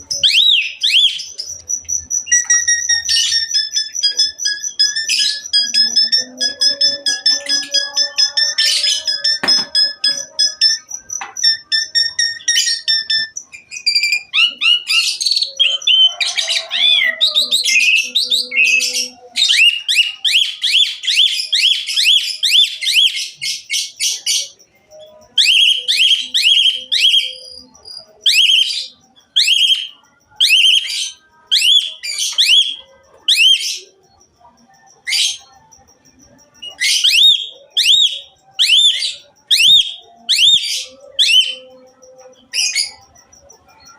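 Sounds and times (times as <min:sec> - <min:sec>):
starling singing mimicked phrases: 0:00.0 - 0:43.9.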